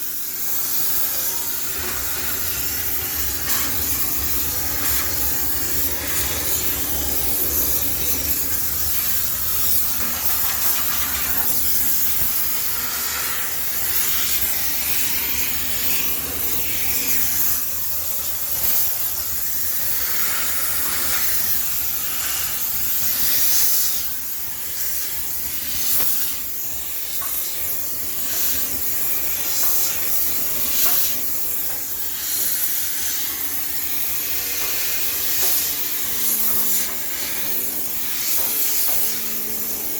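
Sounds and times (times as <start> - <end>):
steam cleaner hissing: 0.0 - 39.9.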